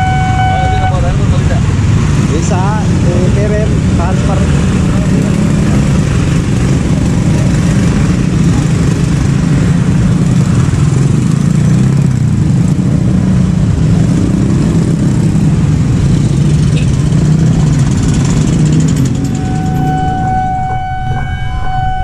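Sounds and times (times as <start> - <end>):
motorcycle engines droning: 0.0 - 22.0.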